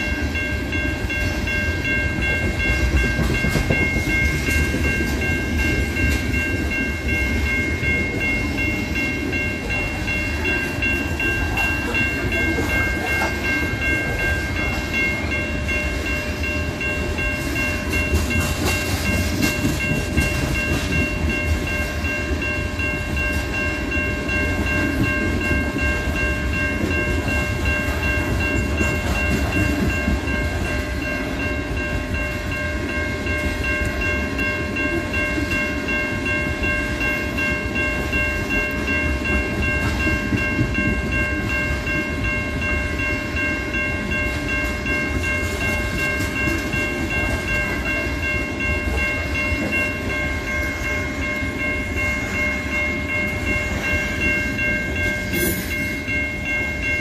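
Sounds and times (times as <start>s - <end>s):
freight train rolling past: 0.0s - 57.0s
level crossing bell ringing: 0.0s - 57.0s.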